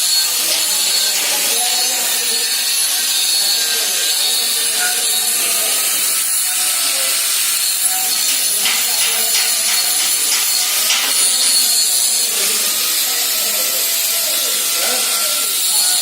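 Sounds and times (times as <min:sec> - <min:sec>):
welding hiss: 0:00.0 - 0:16.0.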